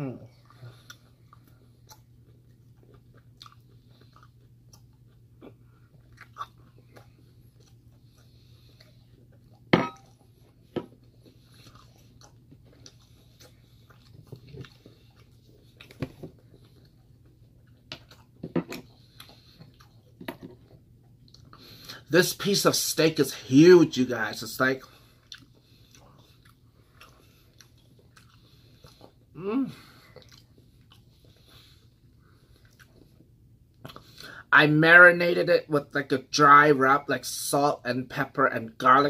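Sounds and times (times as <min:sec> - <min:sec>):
person chewing food: 0:00.3 - 0:22.1, 0:23.9 - 0:34.4.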